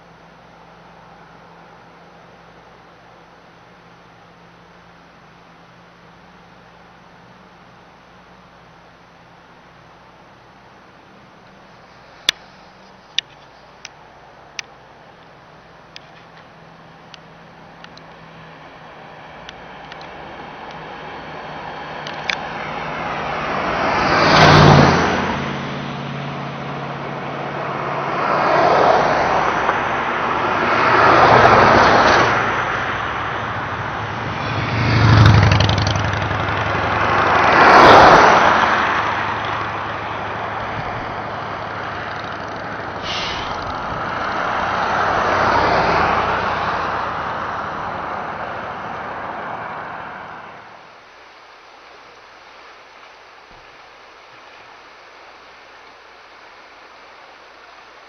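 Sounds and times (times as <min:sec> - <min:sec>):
cars and trucks passing: 0:00.0 - 0:58.0
river water rushing: 0:00.0 - 0:58.0.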